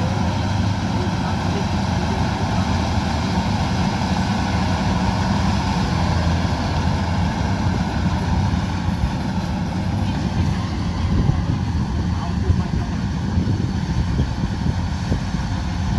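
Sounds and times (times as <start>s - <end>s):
combine harvester engine drone: 0.0s - 15.9s.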